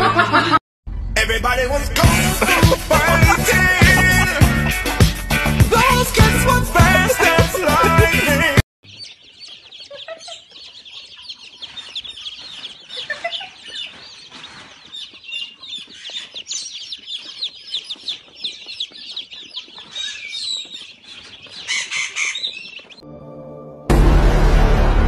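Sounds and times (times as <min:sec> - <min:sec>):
chicks peeping: 0:02.0 - 0:23.0.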